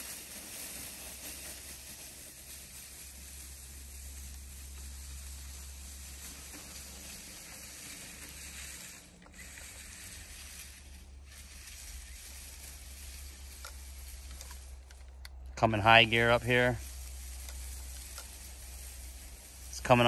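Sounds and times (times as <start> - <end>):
toy car driving through grass: 0.0 - 20.0.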